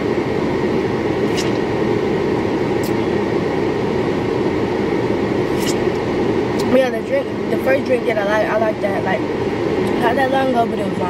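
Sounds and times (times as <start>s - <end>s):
car air conditioning blower hiss: 0.0s - 11.0s.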